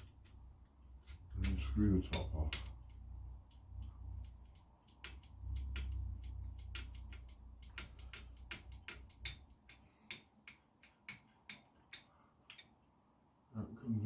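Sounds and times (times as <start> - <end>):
light metallic clicks and taps: 1.0 - 12.9.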